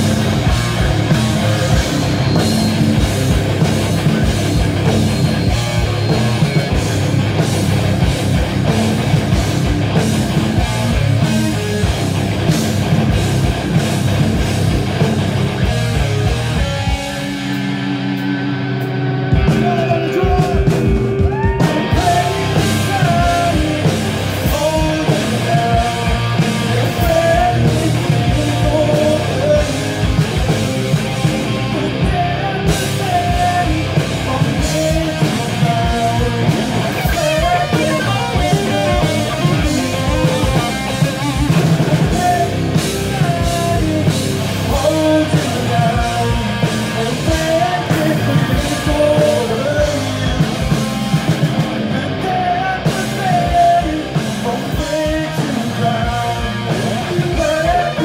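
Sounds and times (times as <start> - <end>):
drum kit: 0.0 - 58.0
electric bass guitar: 0.0 - 58.0
electric guitars: 0.0 - 58.0.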